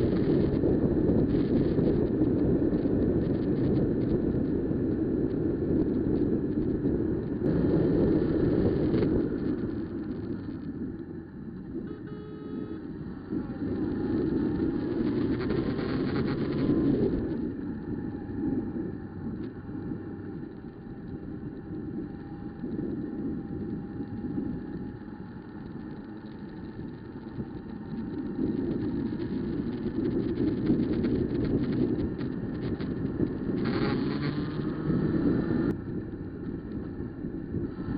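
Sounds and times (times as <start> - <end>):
motorcycle engine running: 0.0 - 37.9
wind buffeting microphone: 0.0 - 37.9.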